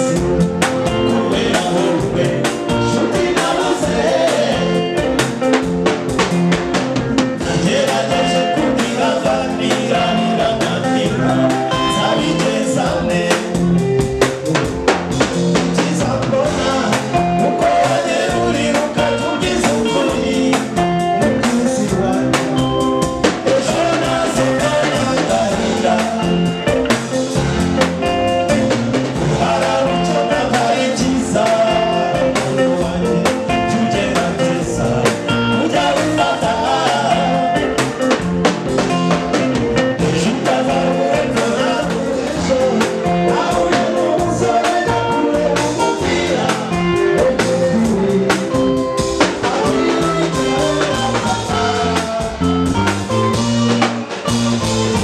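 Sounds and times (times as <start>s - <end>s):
person singing: 0.0s - 5.2s, 7.4s - 13.9s, 15.6s - 26.9s, 29.2s - 38.0s, 40.0s - 53.2s
bass guitar: 0.0s - 55.0s
drum kit with cymbals: 0.0s - 55.0s.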